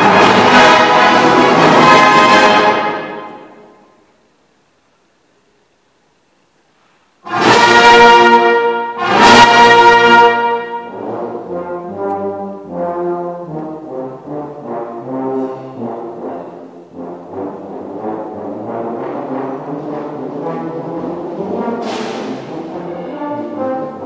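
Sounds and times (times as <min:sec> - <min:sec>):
brass band playing: 0:00.0 - 0:04.0, 0:07.2 - 0:24.0.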